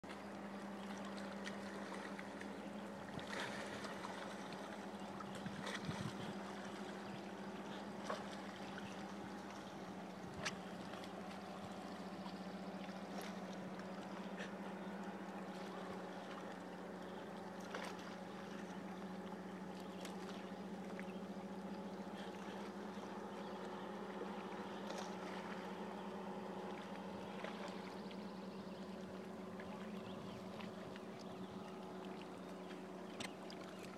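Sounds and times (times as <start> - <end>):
boat motor humming: 0.0 - 33.9.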